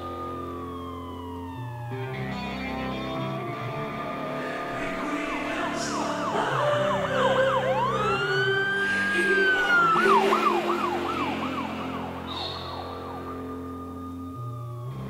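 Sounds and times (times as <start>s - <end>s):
emergency siren wailing: 0.0s - 15.0s
held musical notes: 0.0s - 15.0s
siren fast yelp: 0.0s - 15.0s.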